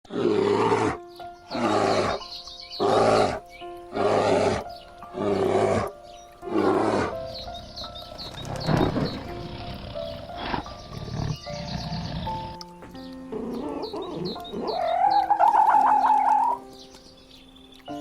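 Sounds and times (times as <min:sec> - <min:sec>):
animal call: 0:00.1 - 0:07.2, 0:08.2 - 0:12.6, 0:13.3 - 0:16.7
background music with held notes: 0:00.1 - 0:18.0.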